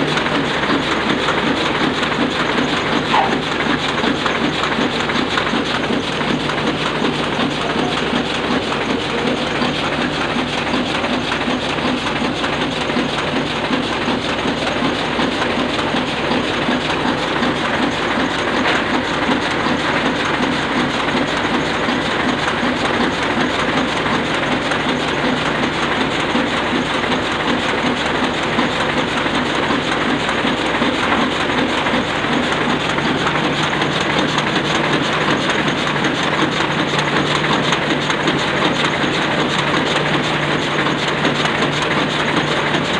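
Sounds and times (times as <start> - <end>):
printing press clattering: 0.0 - 42.9.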